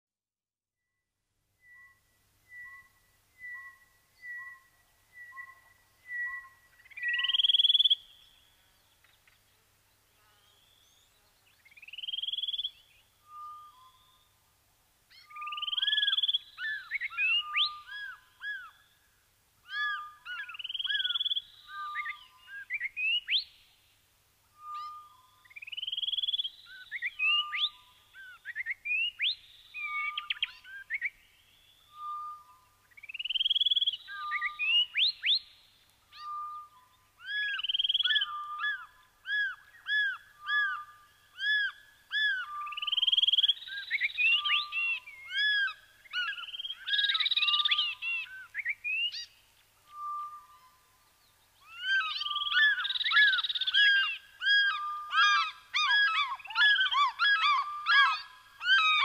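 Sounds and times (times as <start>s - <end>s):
bird whistling song: 1.6s - 8.6s, 10.4s - 14.4s, 15.1s - 19.0s, 19.6s - 23.6s, 24.5s - 59.0s.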